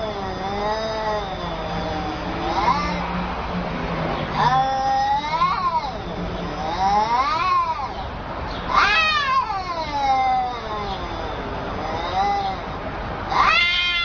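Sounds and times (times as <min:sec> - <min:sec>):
cat yowling: 0:00.0 - 0:03.3, 0:04.3 - 0:14.0.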